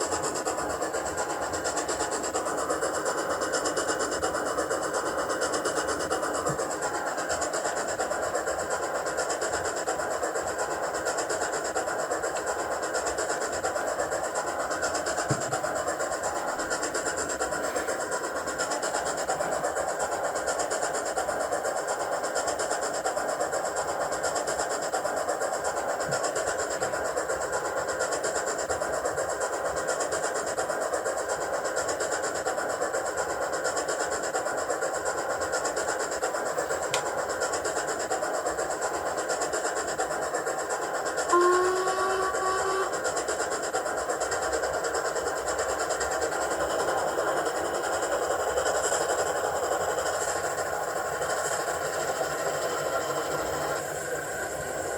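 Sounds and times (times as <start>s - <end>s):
model train motor whirring: 0.0s - 54.9s
steam locomotive sounds from speaker: 0.0s - 54.9s.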